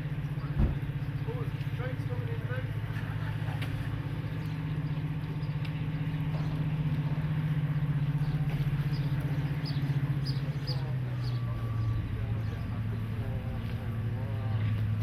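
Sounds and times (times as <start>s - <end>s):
diesel locomotive engines pulsing: 0.0s - 15.0s.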